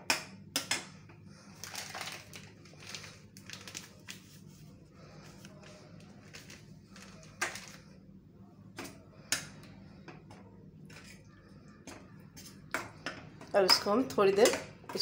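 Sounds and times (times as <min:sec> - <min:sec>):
faint low hum: 0:00.8 - 0:15.0.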